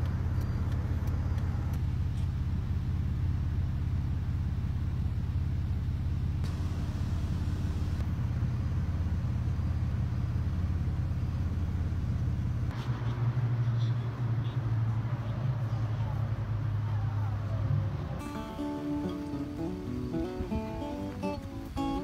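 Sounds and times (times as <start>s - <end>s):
car interior low rumble: 0.0s - 22.0s.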